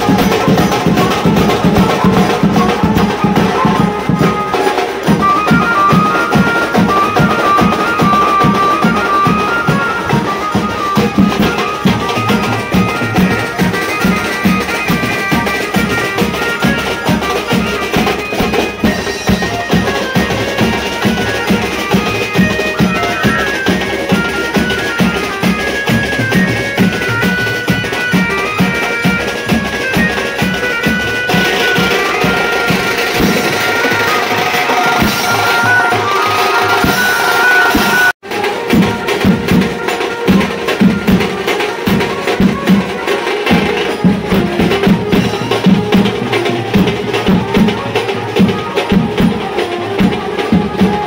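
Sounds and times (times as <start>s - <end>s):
drums and cymbals beat: 0.0s - 51.0s
high melody line: 0.0s - 51.0s.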